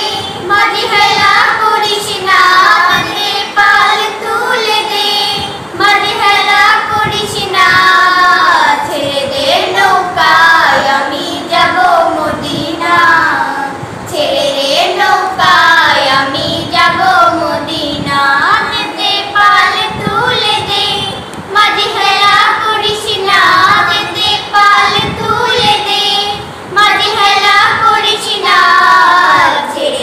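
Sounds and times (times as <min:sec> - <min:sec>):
girls singing together: 0:00.0 - 0:30.0.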